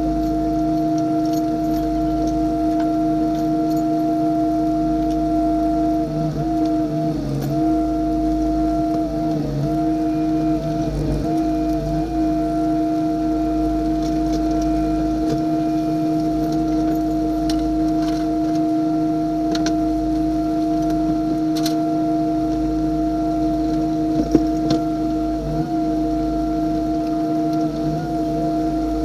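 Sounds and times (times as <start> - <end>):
steady machine whine: 0.0 - 29.0.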